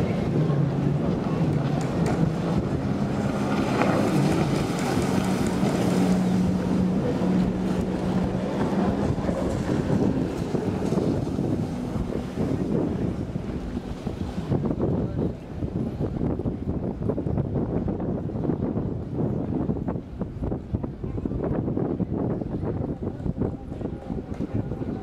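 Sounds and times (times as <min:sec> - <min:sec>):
jet ski engines droning: 0:00.0 - 0:25.0
wind buffeting microphone: 0:00.0 - 0:25.0.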